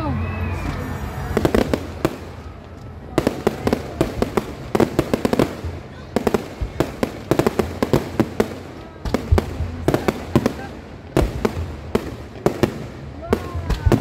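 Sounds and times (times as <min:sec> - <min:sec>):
fireworks bangs and crackling pops: 0:00.6 - 0:14.0.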